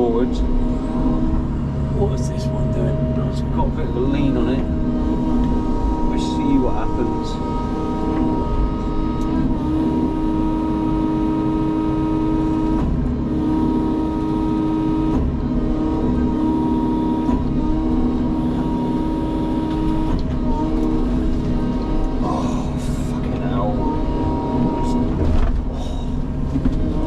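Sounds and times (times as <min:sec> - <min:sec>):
excavator engine and hydraulics whine: 0:00.0 - 0:27.0.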